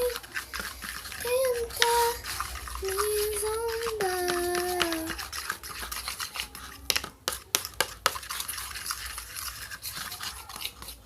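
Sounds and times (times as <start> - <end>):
spoon scraping container: 0.0 - 11.0.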